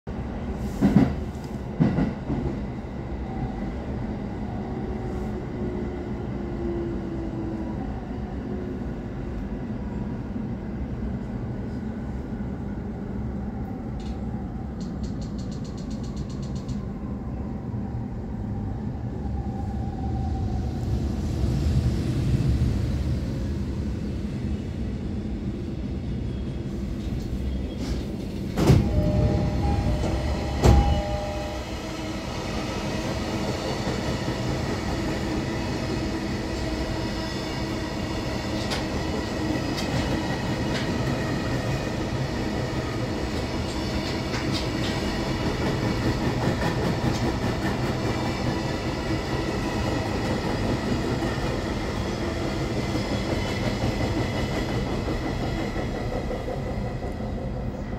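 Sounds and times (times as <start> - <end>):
freight train passing: 0.1 - 57.9
train wheels rumbling on rail: 0.1 - 57.9.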